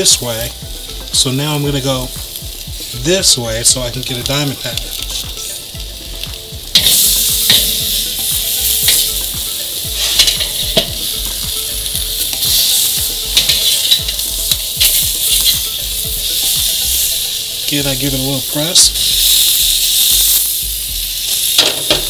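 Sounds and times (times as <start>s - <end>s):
sharp pops and crackles: 0.0s - 22.0s
steaks sizzling on a grill: 0.0s - 22.0s.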